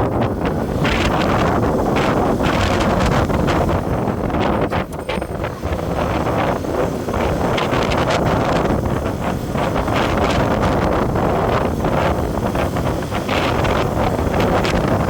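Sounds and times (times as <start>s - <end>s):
road and engine noise: 0.0s - 15.0s
wind buffeting microphone: 0.0s - 15.0s.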